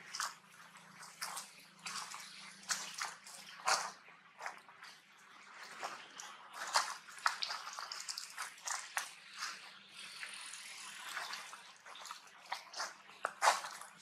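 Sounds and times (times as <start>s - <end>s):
footsteps in dry leaves: 0.0s - 14.0s.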